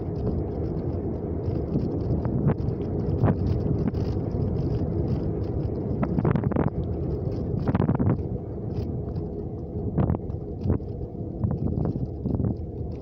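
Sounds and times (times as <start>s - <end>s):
car engine and tyre rumble: 0.0s - 13.0s
wind buffeting microphone: 0.0s - 13.0s.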